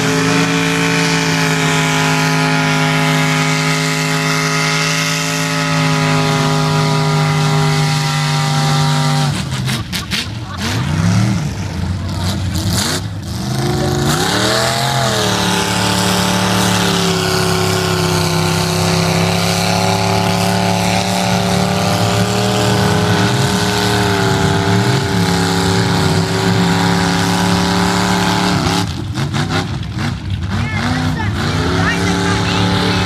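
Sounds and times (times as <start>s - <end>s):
truck engine at high revs: 0.0s - 33.0s.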